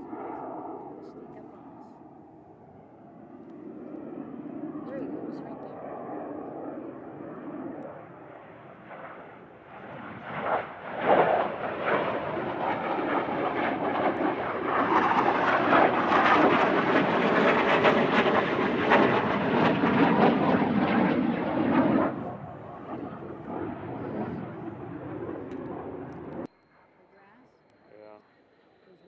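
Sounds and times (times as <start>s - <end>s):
jet aircraft engine roar: 0.0s - 26.5s.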